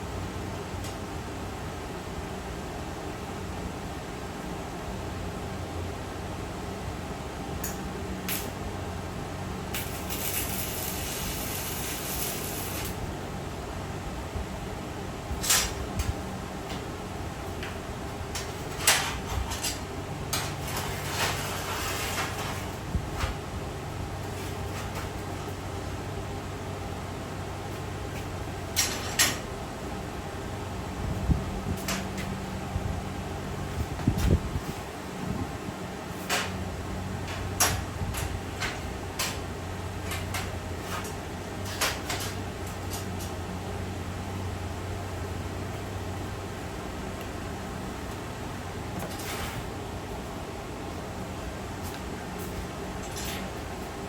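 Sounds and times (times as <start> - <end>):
steady hum: 0.0 - 54.0.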